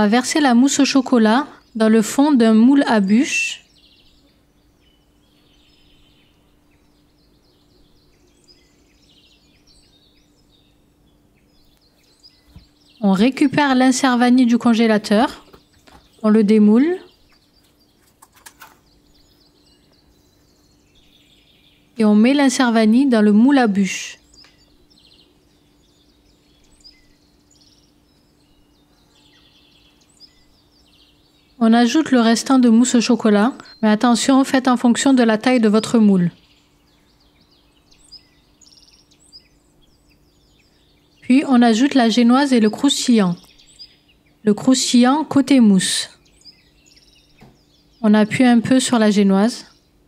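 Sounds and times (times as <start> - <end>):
faint birdsong chirps: 0.0 - 50.0
steady low hum: 0.0 - 50.0.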